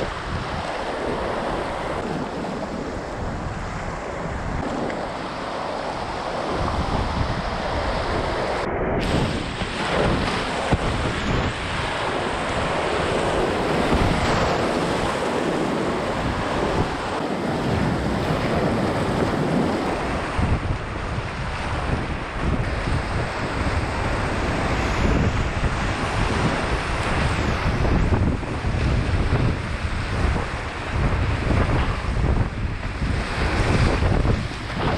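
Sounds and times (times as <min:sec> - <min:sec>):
river rushing: 0:00.0 - 0:34.9
wind buffeting microphone: 0:00.0 - 0:34.9.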